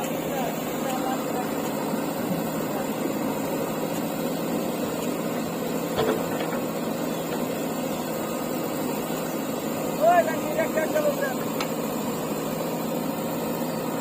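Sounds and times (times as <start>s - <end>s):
heavy diesel machinery running: 0.0s - 14.0s.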